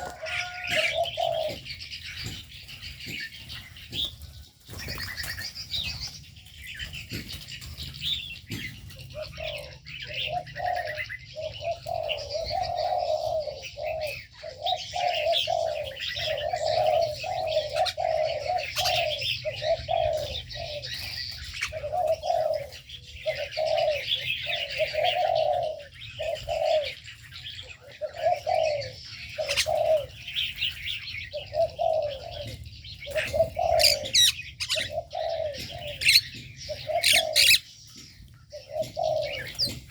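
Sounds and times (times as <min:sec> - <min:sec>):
doves cooing: 0:00.0 - 0:39.9
small birds twittering: 0:00.0 - 0:39.9.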